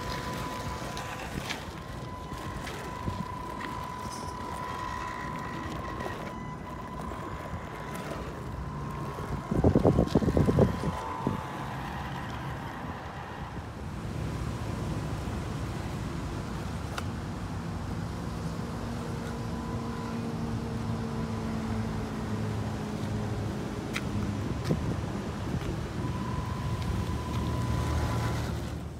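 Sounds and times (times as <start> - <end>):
electric drivetrain whining: 0.0 - 28.9.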